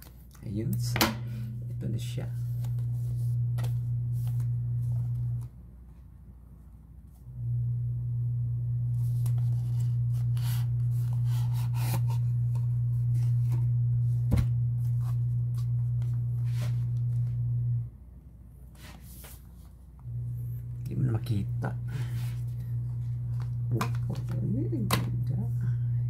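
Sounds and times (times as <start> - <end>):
low hum: 0.6 - 18.7, 19.8 - 26.0.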